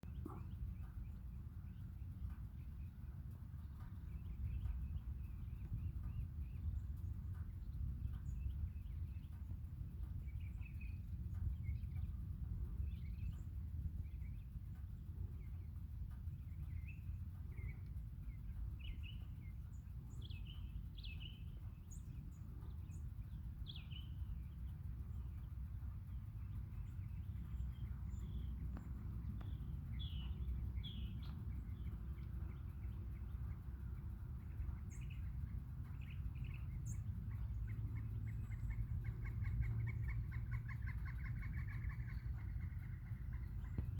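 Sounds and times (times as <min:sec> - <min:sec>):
wild birds chirping: 0:00.0 - 0:43.9.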